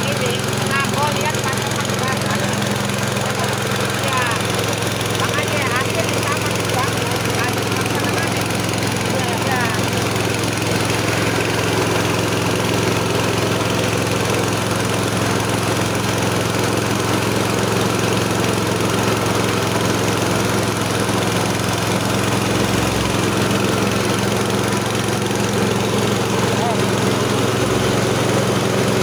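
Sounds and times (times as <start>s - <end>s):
engine drone: 0.0s - 29.0s
rice hissing through mill: 0.0s - 29.0s.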